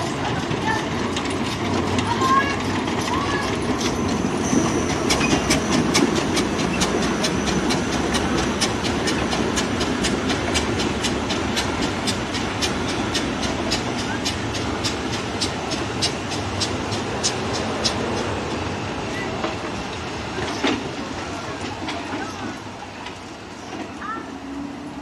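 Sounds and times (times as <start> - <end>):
train wheels clickety-clack: 0.0 - 25.0.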